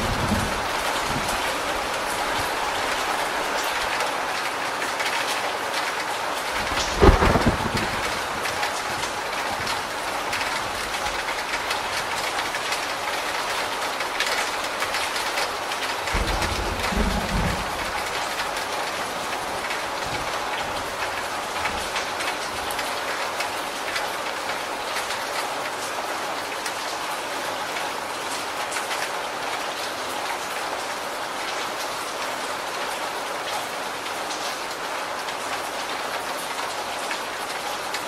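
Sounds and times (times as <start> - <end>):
rain pouring off a roof: 0.0 - 38.0.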